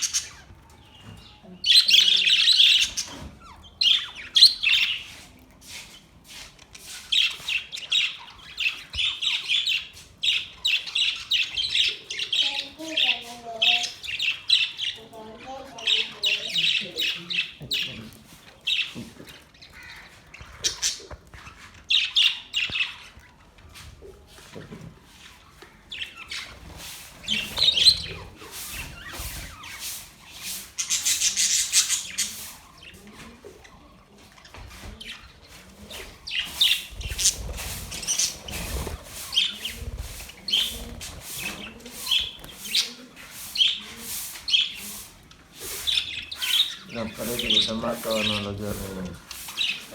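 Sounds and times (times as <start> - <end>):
budgerigars chattering: 0.0 - 5.2, 7.0 - 23.3, 25.4 - 49.9.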